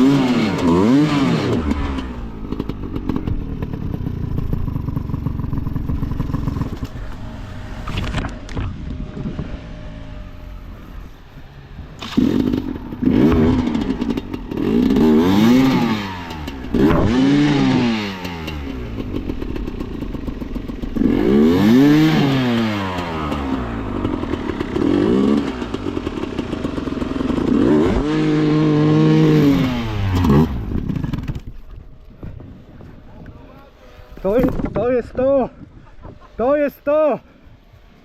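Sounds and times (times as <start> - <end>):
motorcycle engine revving: 0.0 - 31.8.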